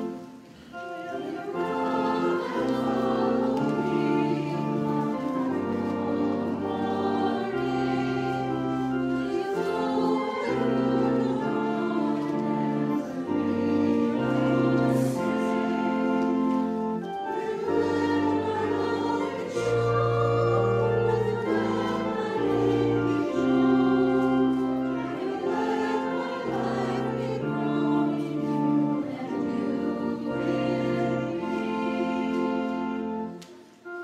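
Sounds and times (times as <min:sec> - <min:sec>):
hymn singing: 0:00.0 - 0:34.0.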